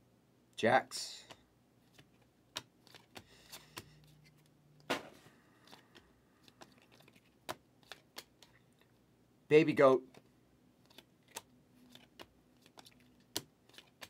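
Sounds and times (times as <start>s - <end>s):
trading cards clicking and rustling: 1.2s - 8.9s, 10.0s - 14.0s.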